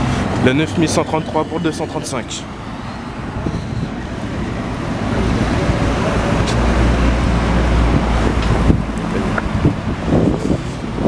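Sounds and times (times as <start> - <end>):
bus diesel engine rumbling: 0.0 - 11.0
street traffic noise: 0.0 - 11.0.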